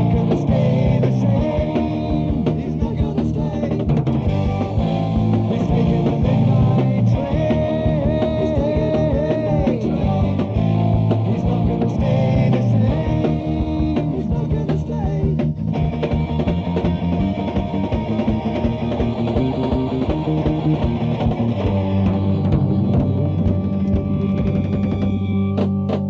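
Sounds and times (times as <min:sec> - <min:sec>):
heavy metal band playing: 0:00.0 - 0:26.0.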